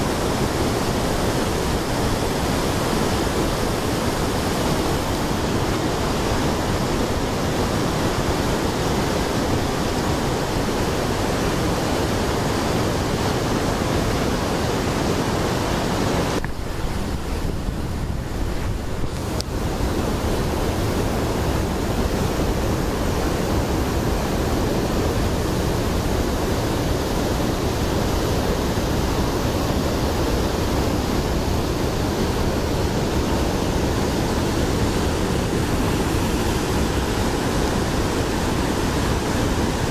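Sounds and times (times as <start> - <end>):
river rapids rushing over boulders: 0.0 - 39.9.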